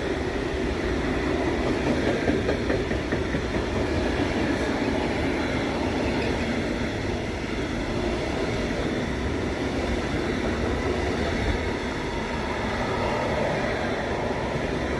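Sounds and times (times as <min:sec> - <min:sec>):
freight train rolling past: 0:00.0 - 0:14.9.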